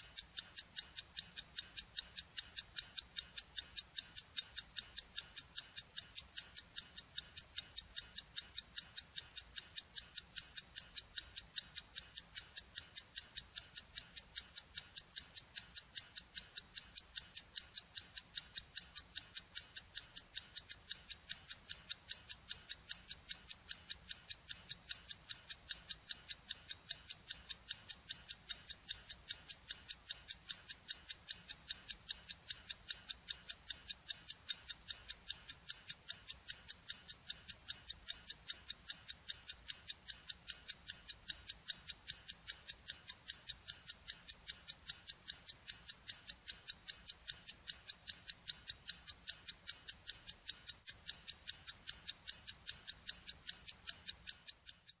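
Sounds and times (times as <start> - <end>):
sharp bright ticking: 0.0 - 55.0.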